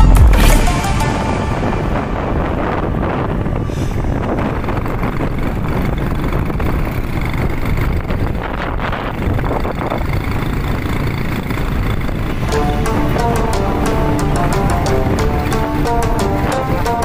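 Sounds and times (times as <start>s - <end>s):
vehicle engine running: 0.0s - 17.0s
wind buffeting microphone: 1.1s - 17.0s.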